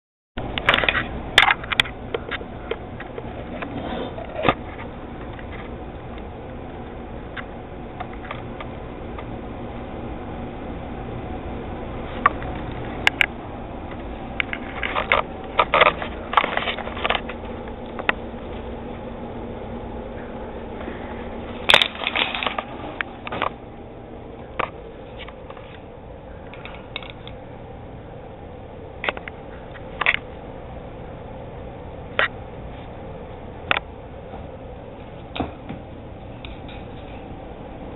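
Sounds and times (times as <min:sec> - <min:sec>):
steady background hum: 0:00.4 - 0:37.9.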